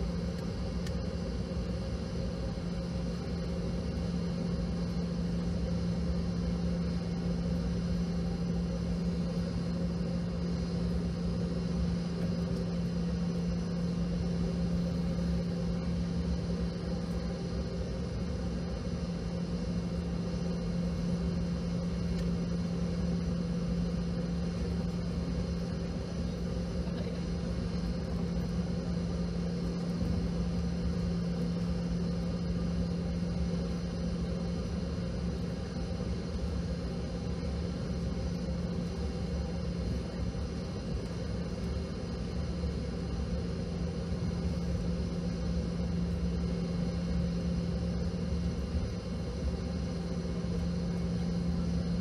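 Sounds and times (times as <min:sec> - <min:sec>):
jet engines low hum: 0:00.0 - 0:52.0.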